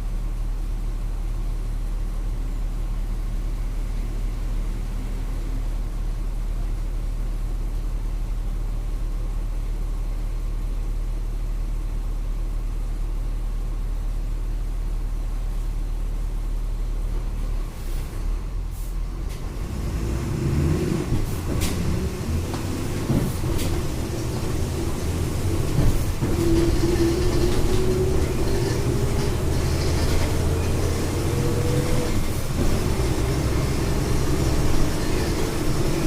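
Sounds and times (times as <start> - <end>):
bus engine droning: 0.0 - 36.0.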